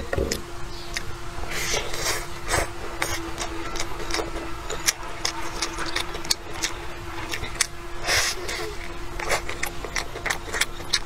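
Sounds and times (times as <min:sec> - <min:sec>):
faint steady hum: 0:00.0 - 0:11.0
moist crunching and chewing: 0:00.0 - 0:11.0.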